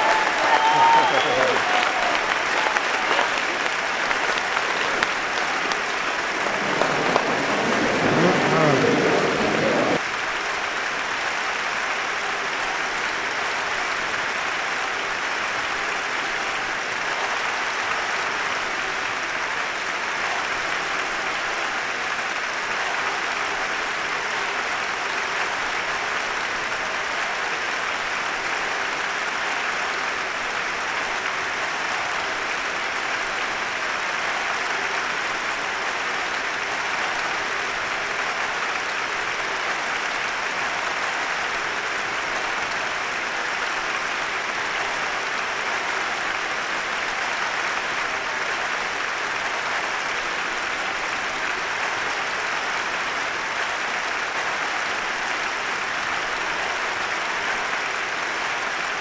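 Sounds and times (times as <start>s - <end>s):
audience applause: 0.0s - 59.0s.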